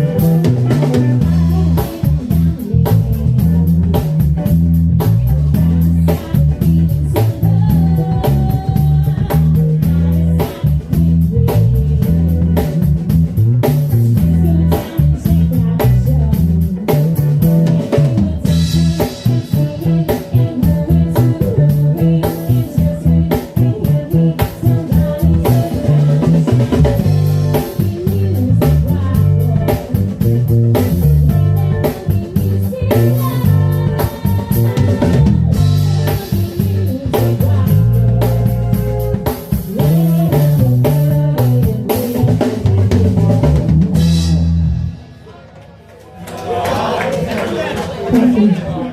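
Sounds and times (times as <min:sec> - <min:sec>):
person singing: 0:00.0 - 0:13.2, 0:13.9 - 0:44.3
electric guitar: 0:00.0 - 0:45.1
drum kit: 0:00.0 - 0:45.4
heavy busy bass line: 0:00.0 - 0:45.4.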